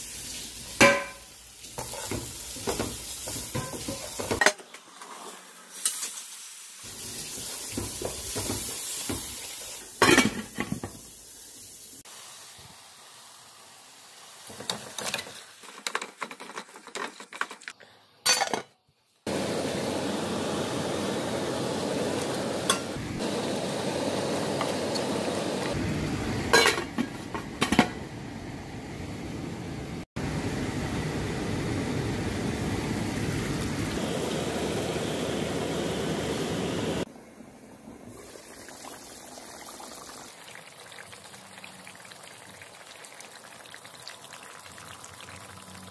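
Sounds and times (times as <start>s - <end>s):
masala sizzling: 0.0s - 17.3s, 19.2s - 45.9s.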